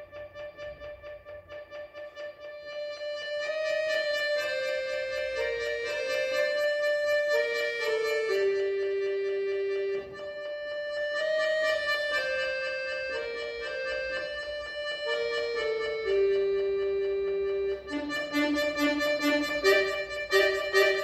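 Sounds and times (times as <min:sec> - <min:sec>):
button accordion melody: 0:01.7 - 0:21.0.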